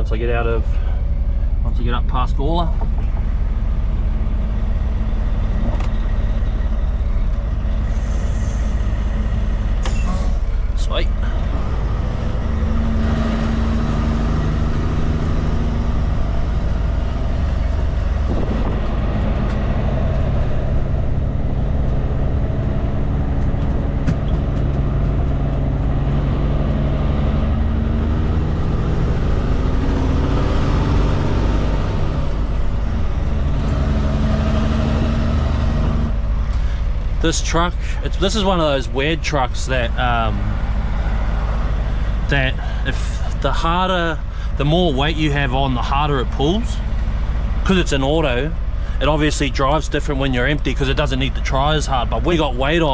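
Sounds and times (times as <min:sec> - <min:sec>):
truck diesel engine under load: 0:00.0 - 0:52.9.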